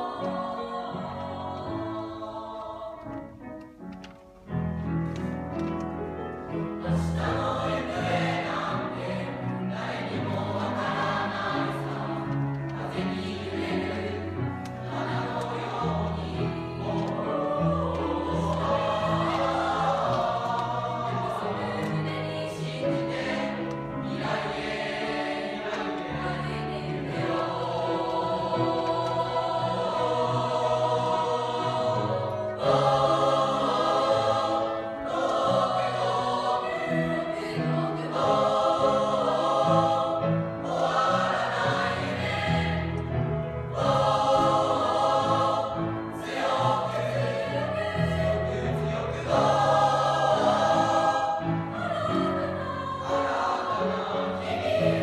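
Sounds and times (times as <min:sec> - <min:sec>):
children's choir singing: 0:00.0 - 0:03.6, 0:06.5 - 0:55.0.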